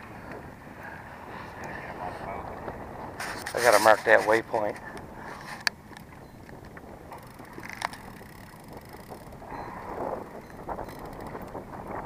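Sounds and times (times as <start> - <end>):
wind and water: 0.0 - 12.0
wind buffeting microphone: 0.0 - 12.0.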